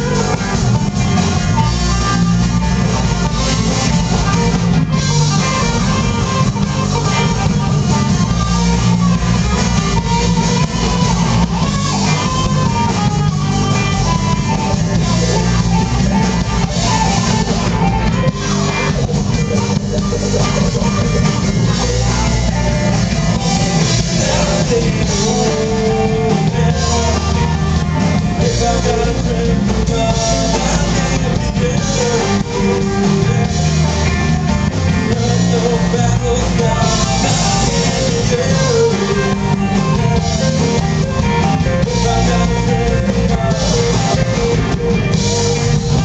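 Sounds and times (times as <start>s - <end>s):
bass: 0.0s - 46.0s
drums: 0.0s - 46.0s
electric guitars: 0.0s - 46.0s.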